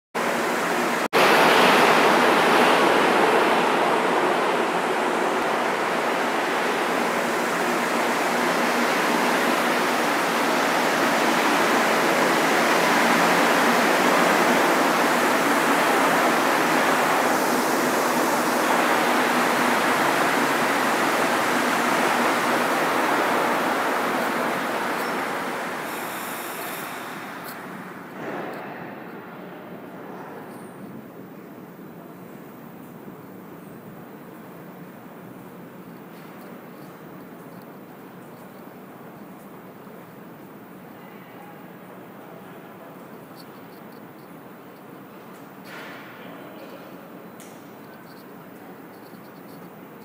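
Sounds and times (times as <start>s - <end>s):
underground train rushing: 0.2s - 41.0s.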